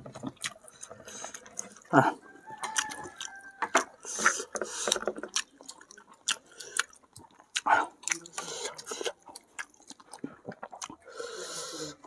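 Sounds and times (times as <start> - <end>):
person chewing food wetly: 0.0 - 12.0.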